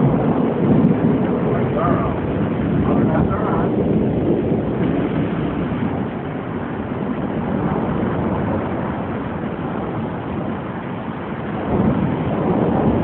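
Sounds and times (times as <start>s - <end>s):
thunderstorm noise: 0.0s - 13.0s.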